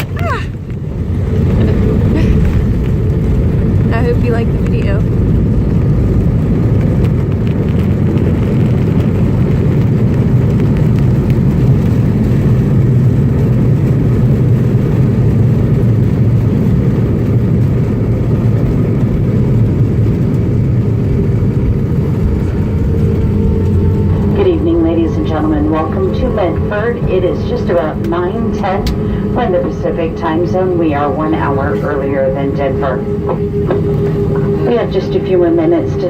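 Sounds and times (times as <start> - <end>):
airliner cabin rumble on runway: 0.0 - 36.0.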